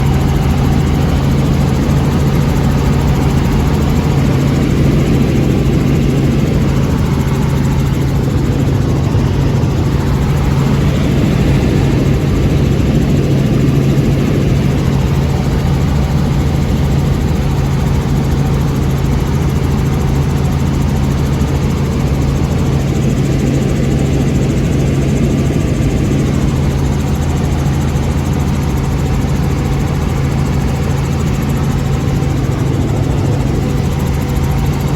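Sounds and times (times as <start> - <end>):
helicopter drone: 0.0 - 34.9.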